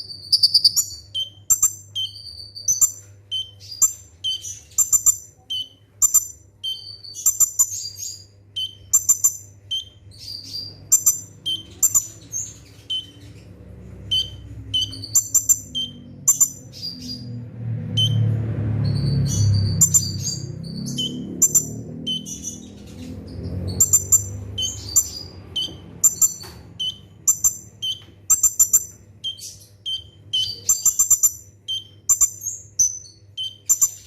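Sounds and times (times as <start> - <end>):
sunbird chirping and trilling: 0.0 - 34.0.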